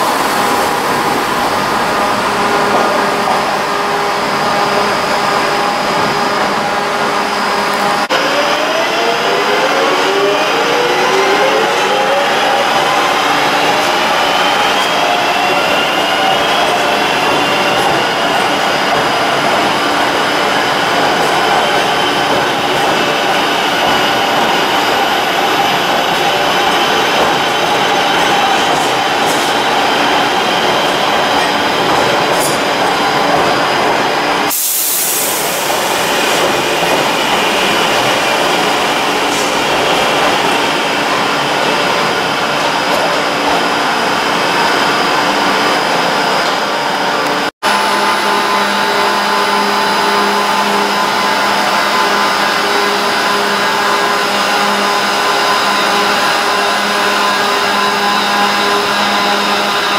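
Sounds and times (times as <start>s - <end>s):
electric train moving: 0.0s - 59.9s
train humming: 0.0s - 59.9s.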